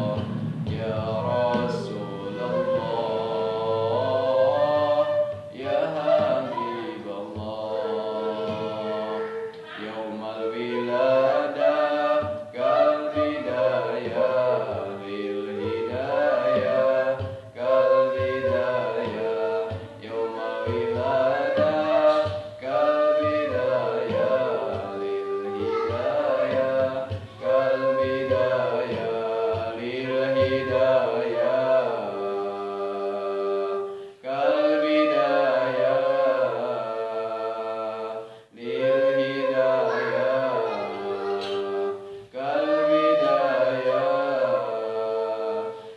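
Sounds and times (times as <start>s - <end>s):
bamboo flute: 0.0s - 45.9s
person singing devotional song: 0.0s - 45.9s.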